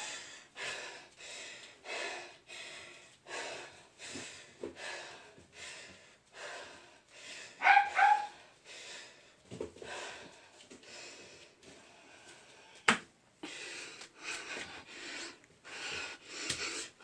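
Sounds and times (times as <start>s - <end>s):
person panting heavily: 0.0s - 17.0s.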